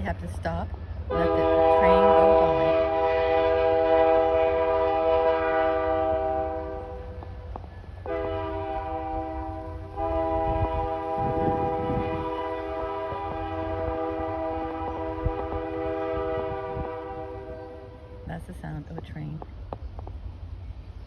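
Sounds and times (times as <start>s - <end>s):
train horn blasts: 1.1s - 18.3s.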